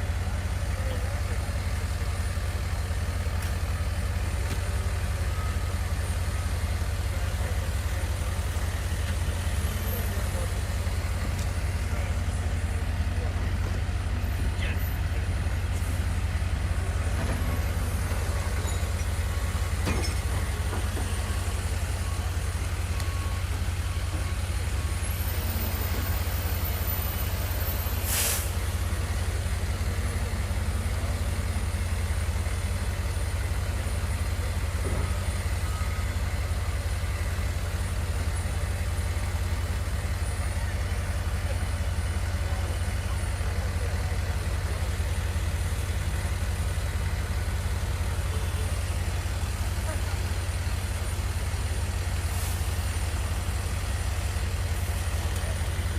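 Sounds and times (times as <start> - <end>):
low rumble of vehicle engines: 0.0 - 55.9.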